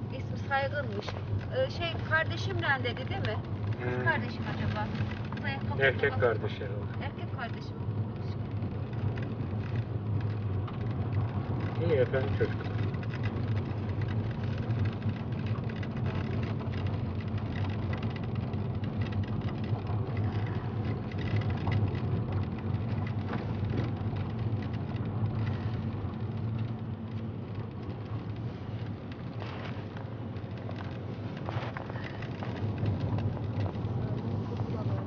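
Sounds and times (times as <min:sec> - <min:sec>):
car engine hum from inside: 0:00.0 - 0:35.0
tyre noise on rough asphalt: 0:00.0 - 0:35.0.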